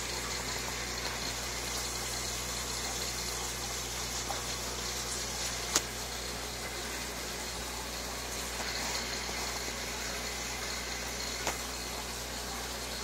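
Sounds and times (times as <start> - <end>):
aquarium bubbler bubbling: 0.0 - 13.0.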